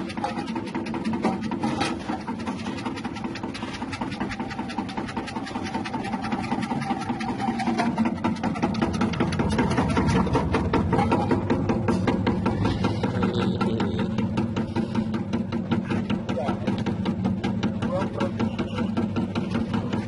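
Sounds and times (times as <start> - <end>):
fast even clatter: 0.0 - 20.0.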